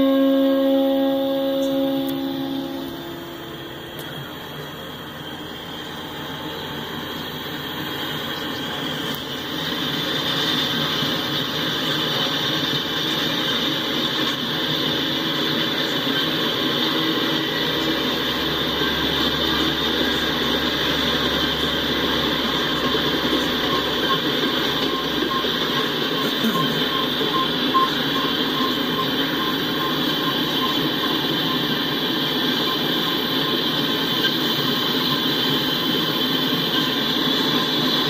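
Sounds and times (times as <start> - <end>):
train wheels clattering on rails: 1.5 - 38.0.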